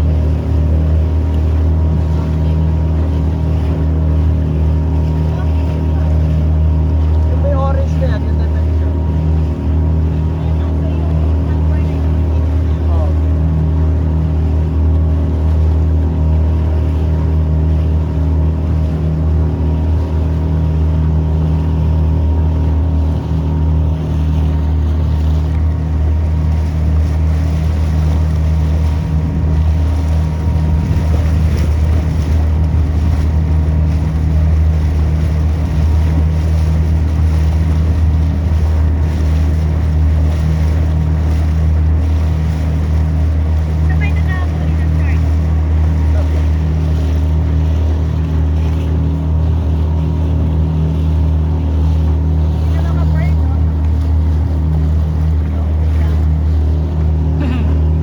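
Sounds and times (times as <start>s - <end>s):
motorboat engine droning: 0.0s - 58.0s
water rushing past: 0.0s - 58.0s.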